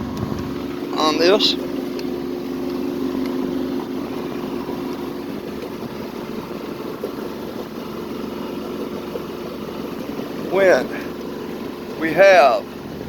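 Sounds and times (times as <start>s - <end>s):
boat engine running: 0.0s - 13.0s
water noise: 0.0s - 13.0s.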